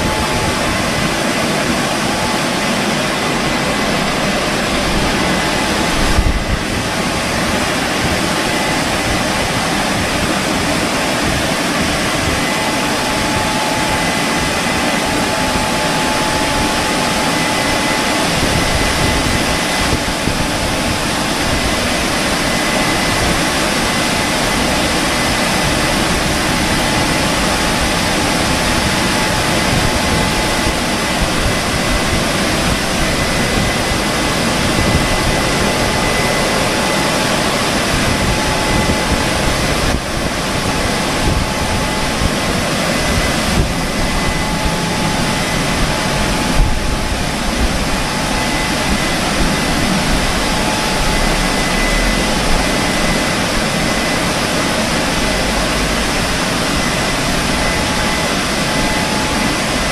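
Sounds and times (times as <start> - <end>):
drying blowers rushing air: 0.0 - 59.9
faint high whine: 0.0 - 59.9.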